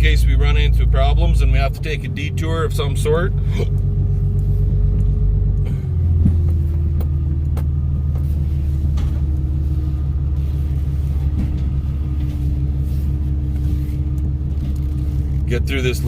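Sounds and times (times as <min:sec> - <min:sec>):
truck engine low hum: 0:00.0 - 0:16.0.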